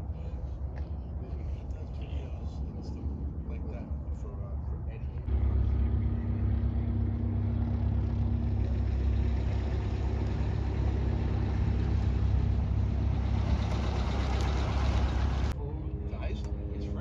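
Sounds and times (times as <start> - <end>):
engine rumbling: 0.0 - 17.0
faint hum: 0.0 - 17.0.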